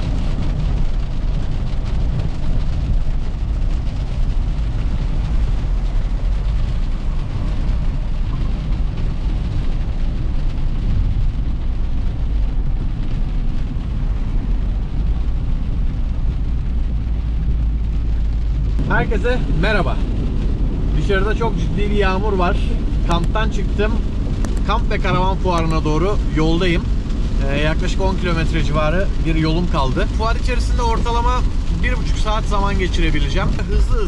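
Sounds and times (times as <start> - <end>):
vehicle driving in heavy rain: 0.0 - 34.0.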